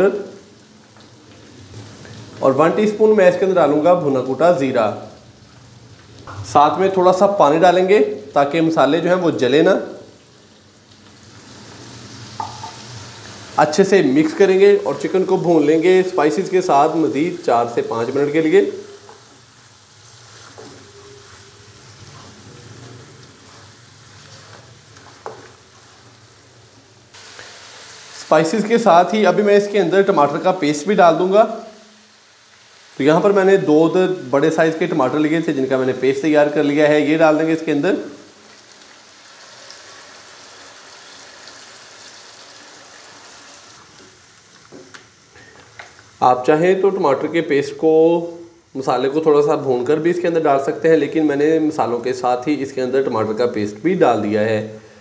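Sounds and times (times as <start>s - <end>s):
chicken sizzling in oil: 7.2s - 53.8s.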